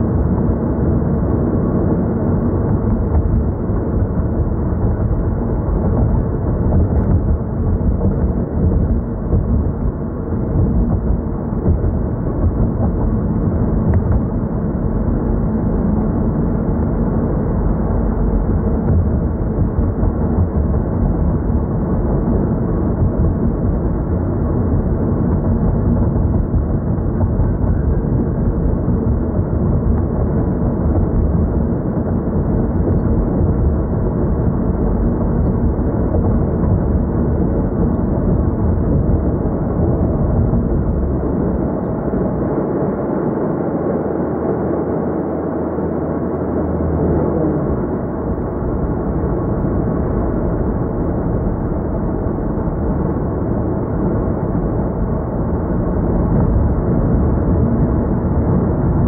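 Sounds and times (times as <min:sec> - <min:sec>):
car cabin road and engine noise: 0:00.0 - 0:59.0
low hum: 0:00.0 - 0:59.0.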